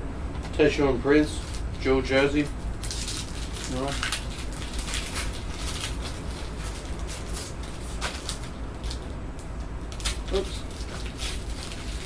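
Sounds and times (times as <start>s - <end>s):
low hum: 0.0s - 12.0s
cards rustling and crinkling: 1.3s - 12.0s.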